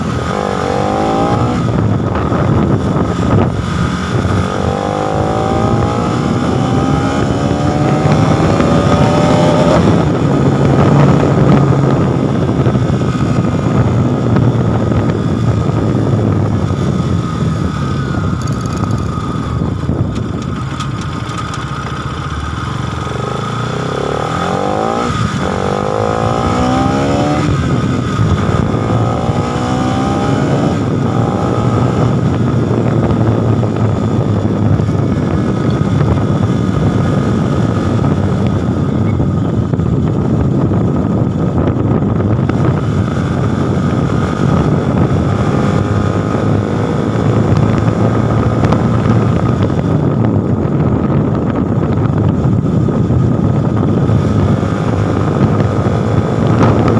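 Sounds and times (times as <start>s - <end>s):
motorcycle engine accelerating: 0.0s - 56.9s
rush of wind noise: 0.0s - 56.9s.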